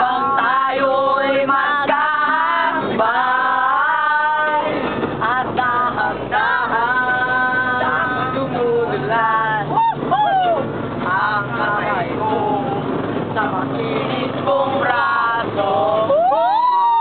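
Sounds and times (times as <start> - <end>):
people singing together: 0.0 - 16.4.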